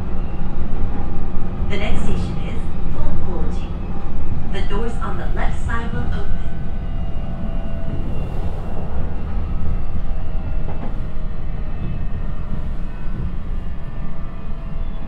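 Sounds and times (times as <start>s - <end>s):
humming tones from rail: 0.0s - 15.0s
train wheels rumbling on rail: 0.0s - 15.0s.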